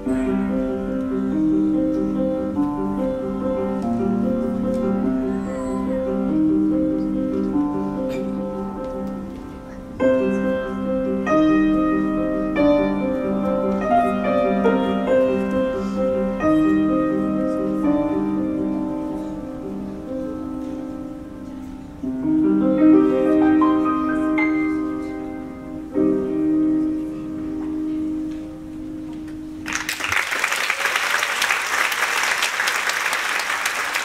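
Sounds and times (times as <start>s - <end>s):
grand piano chords: 0.0s - 30.2s.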